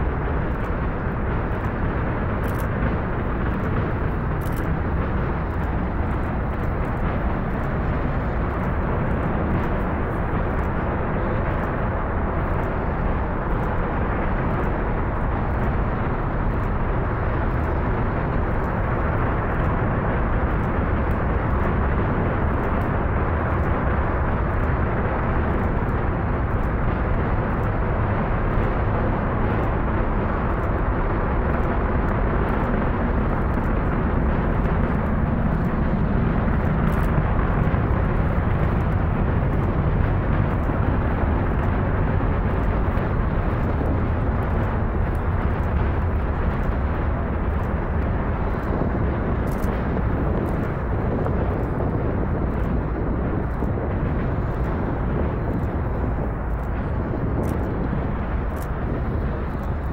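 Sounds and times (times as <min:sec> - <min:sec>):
rocket engines roaring: 0:00.0 - 0:59.9.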